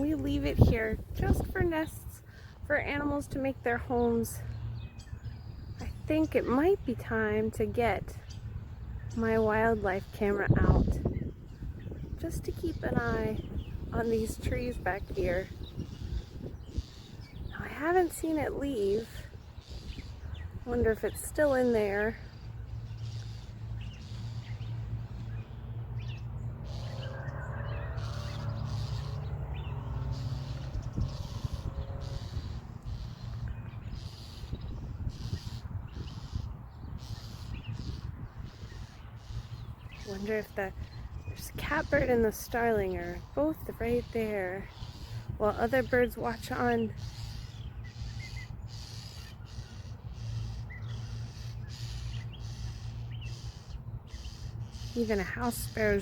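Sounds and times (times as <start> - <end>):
steady low rumble: 0.0 - 48.8
songbirds harsh scolding calls: 0.0 - 56.0
bird chirps: 3.2 - 56.0.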